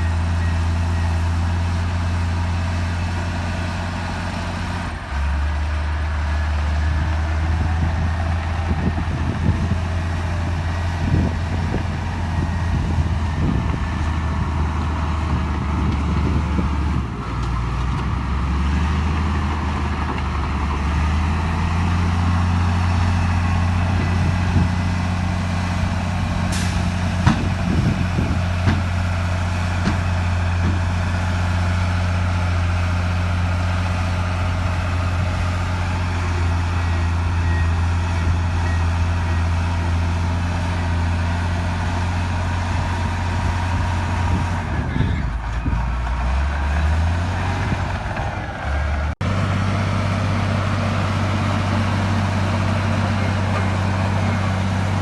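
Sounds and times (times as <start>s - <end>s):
heavy machinery engine drone: 0.0s - 55.0s.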